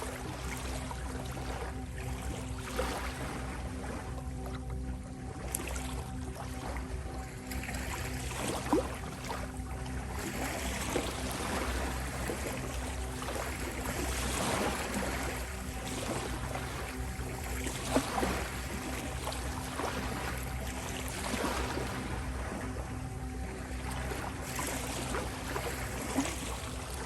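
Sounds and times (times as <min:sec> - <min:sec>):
steady sustained tone: 0:00.0 - 0:27.0.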